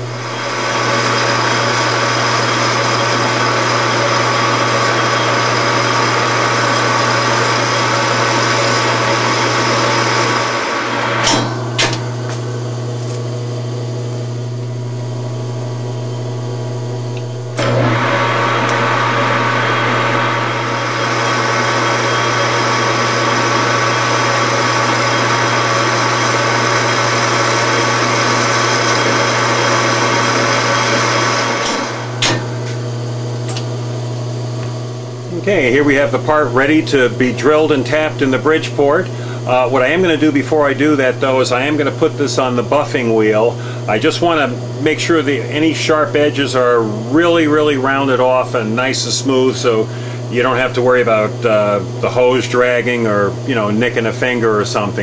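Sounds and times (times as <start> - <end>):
lathe cutting metal: 0.0 - 13.1, 13.7 - 33.6, 34.9 - 47.7
lathe motor hum: 0.0 - 55.0.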